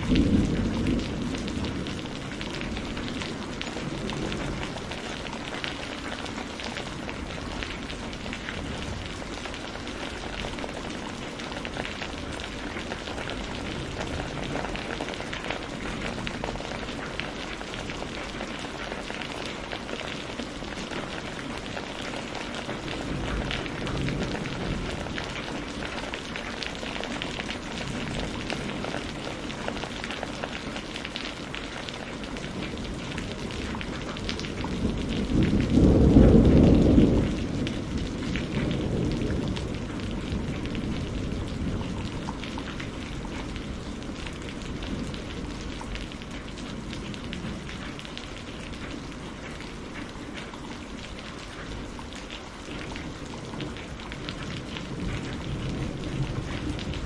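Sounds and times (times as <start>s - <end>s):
rain pattering on surfaces: 0.0s - 57.0s.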